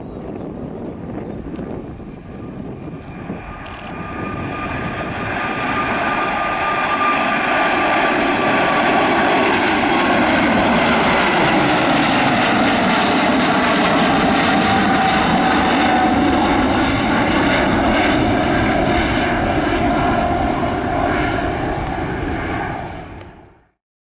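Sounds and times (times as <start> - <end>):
jet engines roaring: 0.0 - 23.6.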